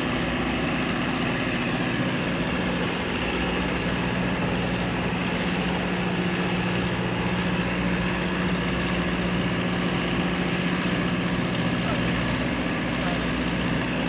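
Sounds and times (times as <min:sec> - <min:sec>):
gas turbine engine hum and whine: 0:00.0 - 0:14.0.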